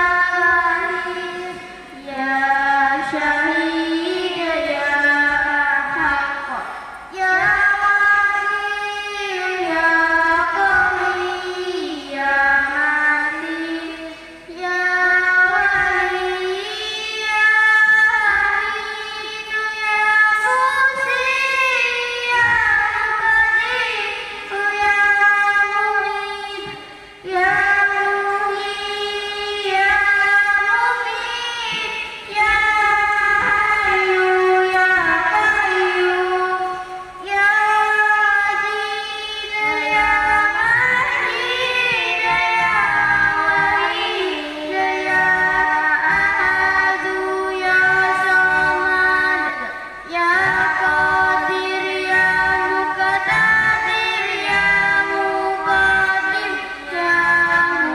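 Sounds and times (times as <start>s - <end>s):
girl chanting through microphone: 0.0s - 57.9s.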